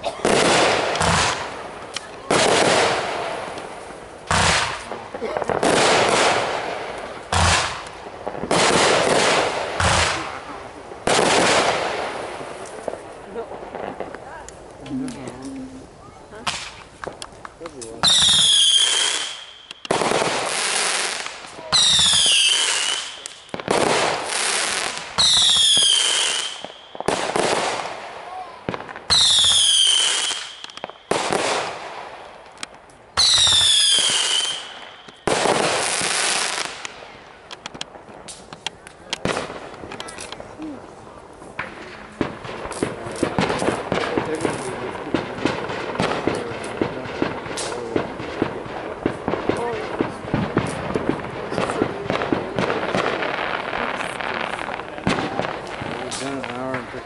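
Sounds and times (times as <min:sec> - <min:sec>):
firework bursts: 0:00.0 - 0:57.0.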